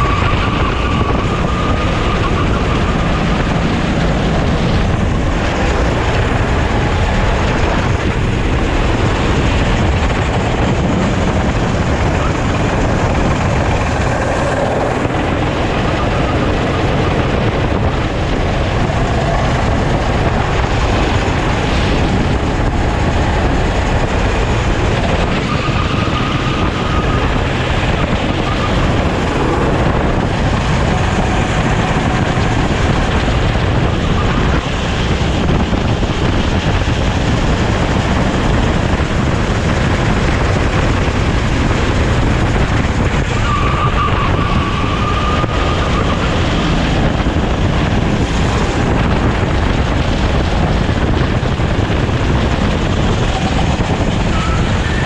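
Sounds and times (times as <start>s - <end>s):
kart engine running hard: 0.0s - 55.0s
wind noise on microphone: 0.0s - 55.0s.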